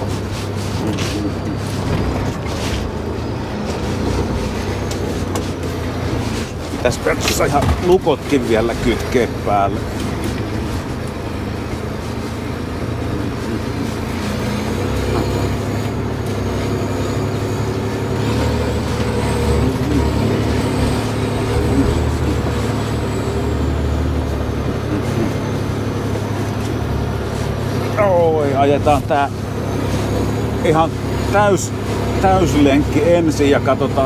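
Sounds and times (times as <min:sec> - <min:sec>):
truck engine under load: 0:00.0 - 0:34.0.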